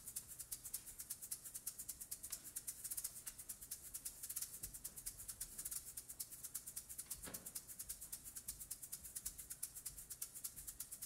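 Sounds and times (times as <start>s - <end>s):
hand shaker rhythm: 0.0s - 11.0s.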